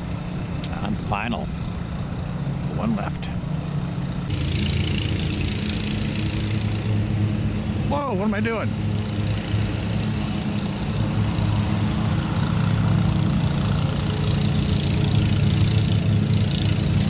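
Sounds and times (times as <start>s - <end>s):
lawnmowers running: 0.0s - 17.0s.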